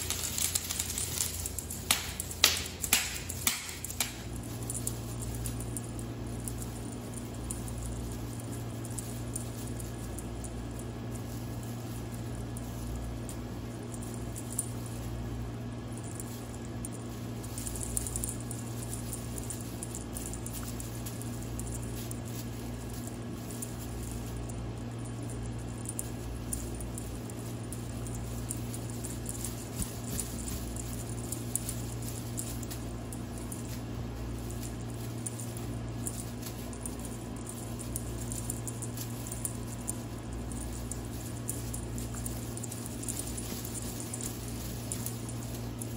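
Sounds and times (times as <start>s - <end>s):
cat toy rustling and clicking: 0.0s - 45.9s
steady low hum: 0.0s - 45.9s.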